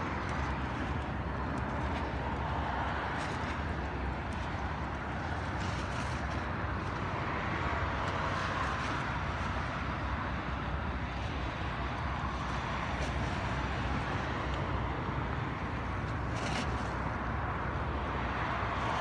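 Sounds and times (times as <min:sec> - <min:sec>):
choppy sea water washing: 0:00.0 - 0:19.0
distant road traffic: 0:00.0 - 0:19.0.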